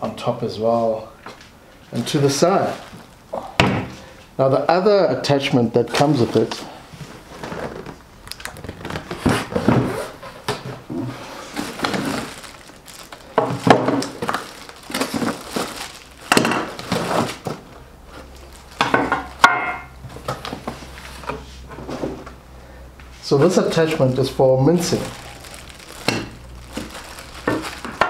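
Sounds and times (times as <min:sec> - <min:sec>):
cardboard and plastic rustling: 0:01.4 - 0:03.3, 0:05.8 - 0:22.3, 0:23.2 - 0:28.0.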